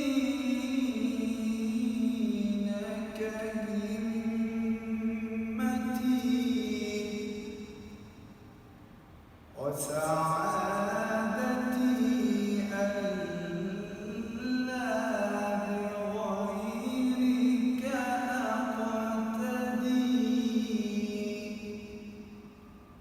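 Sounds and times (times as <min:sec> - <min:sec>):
man singing unaccompanied: 0:00.0 - 0:08.1, 0:09.6 - 0:22.6.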